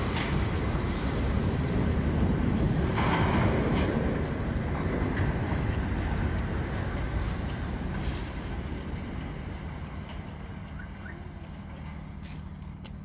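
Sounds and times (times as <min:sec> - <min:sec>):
deep rumble of collapsing roof: 0:00.0 - 0:10.7.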